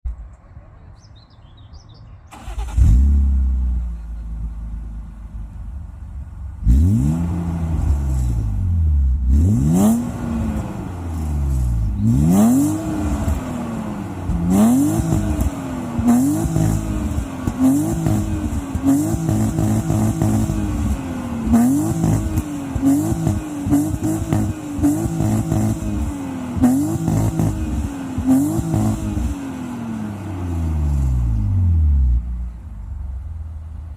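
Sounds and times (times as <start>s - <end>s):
car engine revving: 2.3s - 33.6s.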